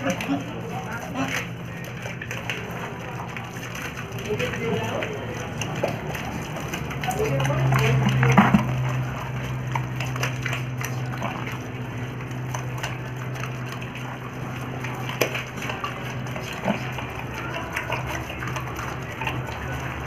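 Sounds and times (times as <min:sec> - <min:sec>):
pigs chewing and snuffling: 0:00.0 - 0:20.0
steady low hum: 0:00.0 - 0:20.0.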